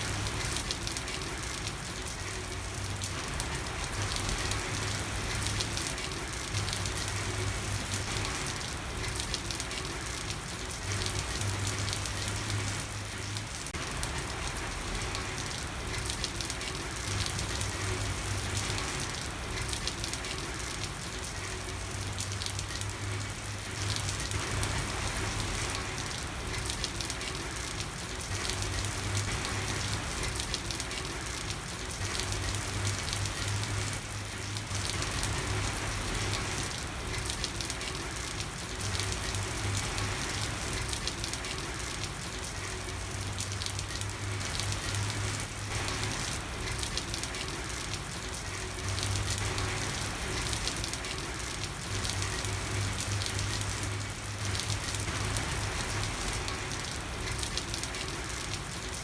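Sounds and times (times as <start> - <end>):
rain patter on street: 0.0 - 59.0.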